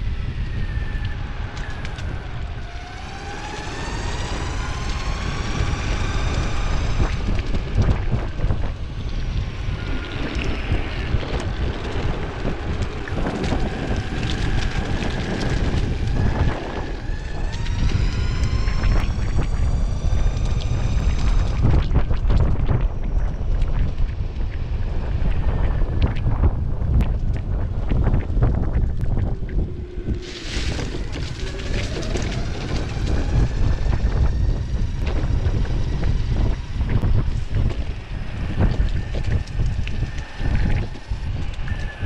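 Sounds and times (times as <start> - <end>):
electric motor whine: 0.0 - 27.0, 28.5 - 42.0
wind on microphone: 0.0 - 42.0
wheel rumble on pavement: 0.7 - 42.0
wheels clicking over cracks: 0.9 - 42.0.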